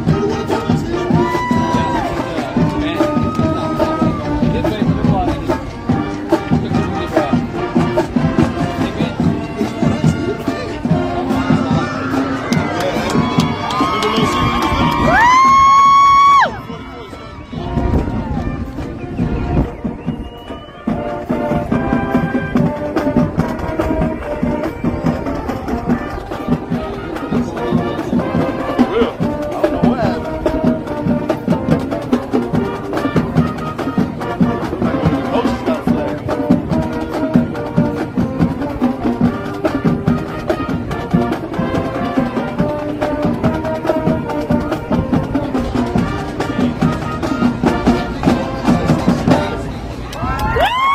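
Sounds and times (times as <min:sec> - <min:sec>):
steady drum beat: 0:00.0 - 0:16.8, 0:17.5 - 0:50.9
horns playing a tune: 0:00.0 - 0:50.9.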